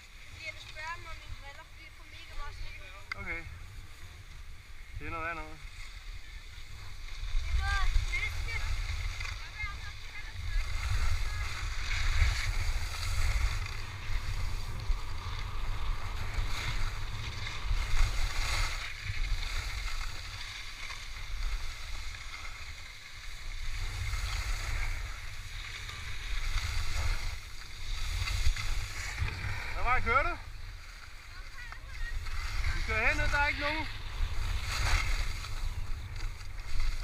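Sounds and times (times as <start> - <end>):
skis sliding on snow: 0.0 - 37.0
wind buffeting microphone: 6.2 - 22.6, 23.4 - 37.0.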